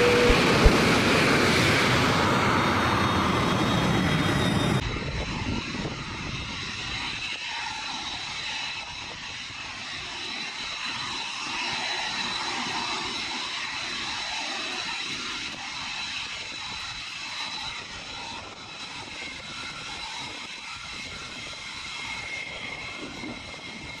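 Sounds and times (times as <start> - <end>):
jet engines in flight: 0.0 - 24.0.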